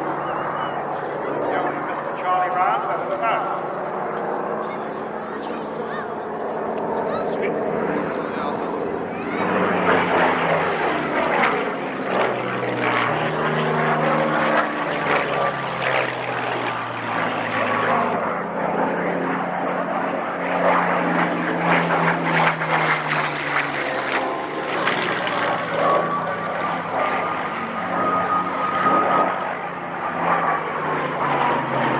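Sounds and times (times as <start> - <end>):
propeller aircraft engine: 0.0 - 31.9.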